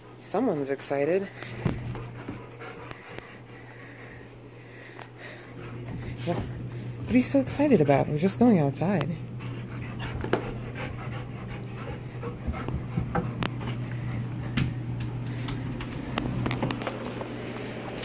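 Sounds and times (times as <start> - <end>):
dogs panting: 0.0 - 14.6
steady low hum: 0.0 - 18.0.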